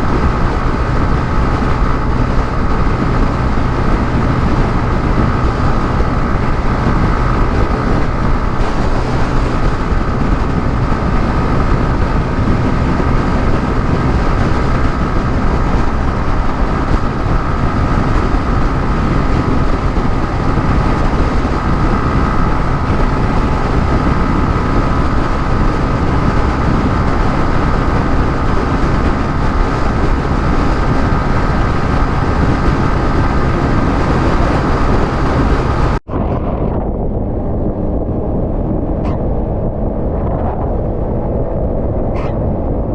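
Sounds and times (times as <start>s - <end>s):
motorcycle engine drone: 0.0s - 42.9s
road rumble: 0.0s - 42.9s
wind on microphone: 0.0s - 42.9s.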